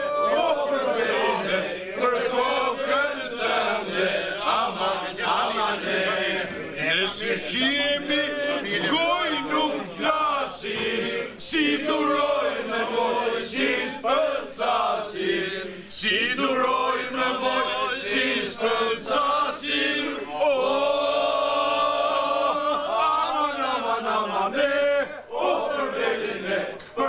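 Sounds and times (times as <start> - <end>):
men singing unaccompanied: 0.1 - 27.0.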